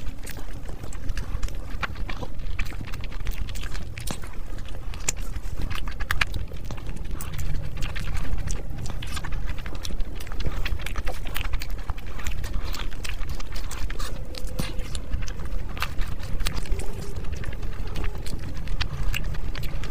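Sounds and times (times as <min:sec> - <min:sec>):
chewing and lip-smacking: 0:00.0 - 0:19.9
fingers squishing rice: 0:00.0 - 0:19.9.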